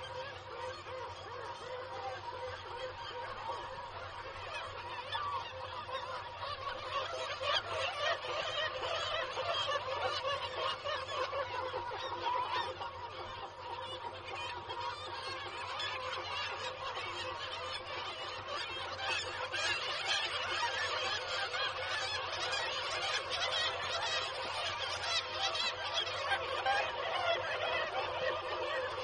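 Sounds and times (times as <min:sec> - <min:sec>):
seabird colony calling: 0:00.0 - 0:29.0.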